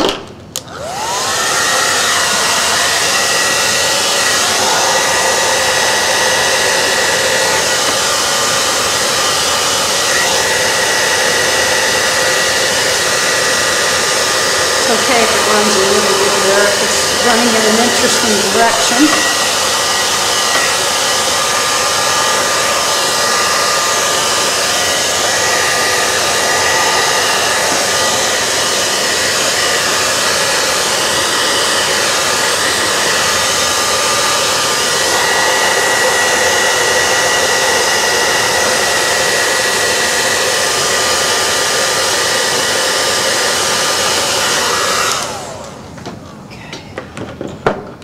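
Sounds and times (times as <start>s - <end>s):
hair dryer blowing air: 0.0s - 46.4s.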